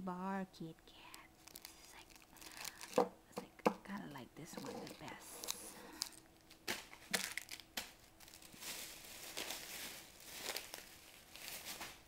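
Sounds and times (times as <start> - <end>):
plastic packaging crinkling: 1.1 - 3.1, 3.8 - 12.0.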